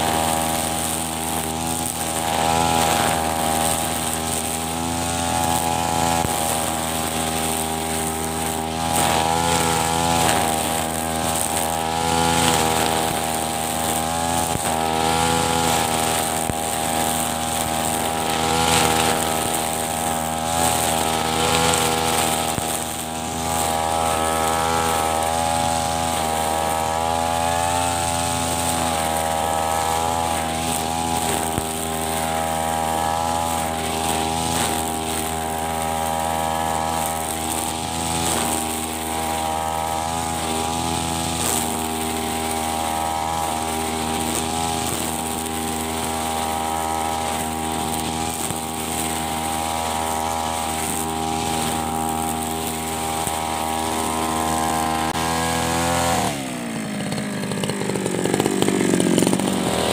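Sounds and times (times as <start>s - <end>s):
brush cutter engine cutting grass: 0.0s - 59.9s.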